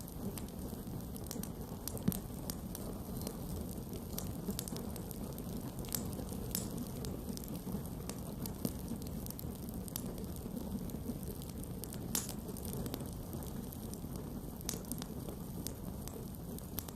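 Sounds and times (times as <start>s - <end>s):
burning wood crackling: 0.0s - 16.9s.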